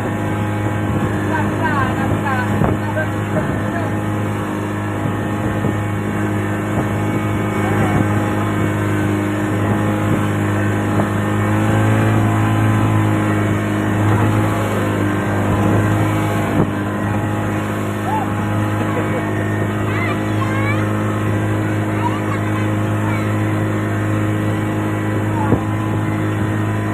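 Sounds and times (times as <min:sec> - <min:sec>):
boat engine running: 0:00.0 - 0:26.9.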